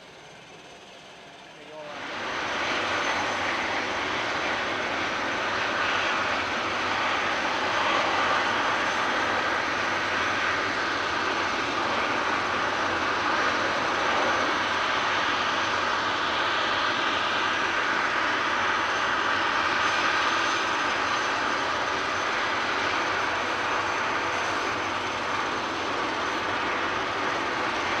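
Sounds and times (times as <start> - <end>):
jets taxiing: 0.1 - 28.0.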